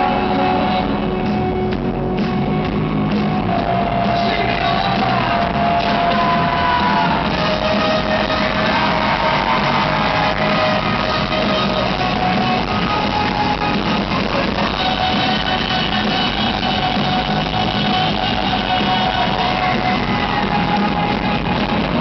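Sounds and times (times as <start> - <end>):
electric guitar long notes: 0.0 - 22.0
live rock band playing: 0.0 - 22.0.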